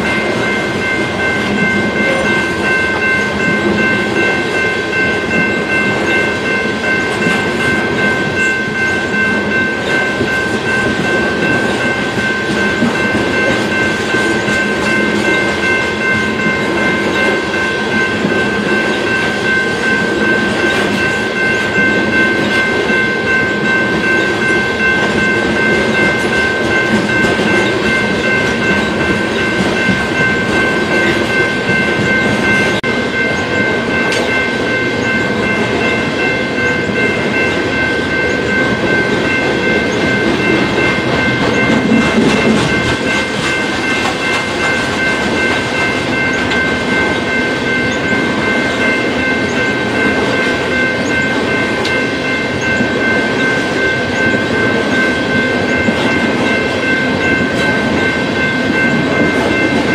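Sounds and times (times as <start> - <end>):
high-pitched multi-tone ringing: 0.0 - 59.9
train wheels on rail: 0.0 - 59.9.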